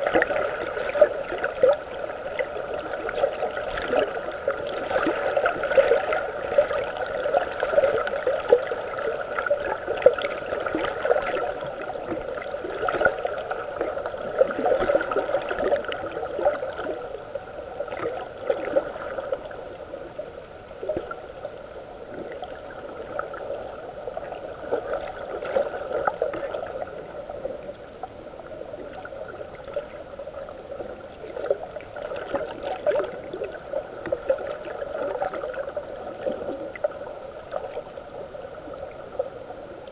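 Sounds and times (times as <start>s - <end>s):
small crackles and pops: 0.0s - 39.9s
underwater churning and gurgling: 0.0s - 39.9s.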